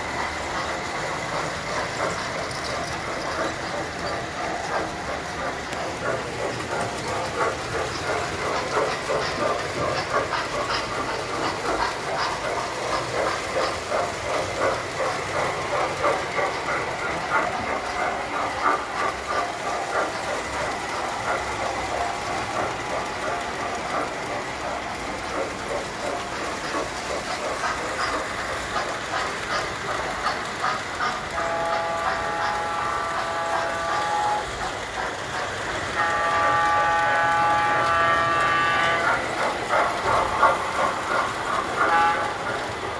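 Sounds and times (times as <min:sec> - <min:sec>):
model train wheels clattering: 0:00.0 - 0:42.9.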